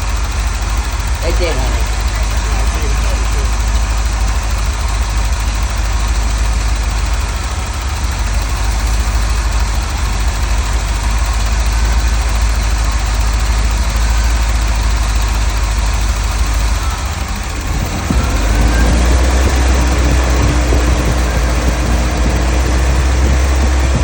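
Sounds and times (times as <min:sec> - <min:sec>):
engine idling: 0:00.0 - 0:24.0
injectors hammering: 0:00.0 - 0:24.0.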